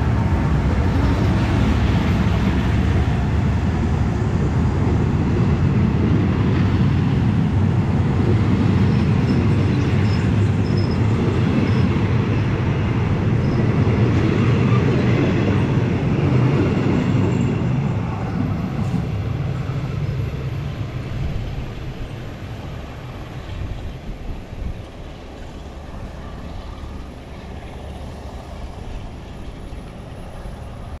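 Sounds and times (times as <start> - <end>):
train coaches rolling on rails: 0.0 - 31.0.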